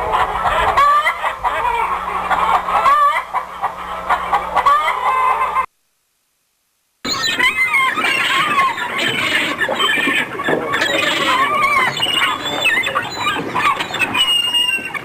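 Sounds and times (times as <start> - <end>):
squealing animal cries: 0.0 - 5.7, 7.1 - 15.0.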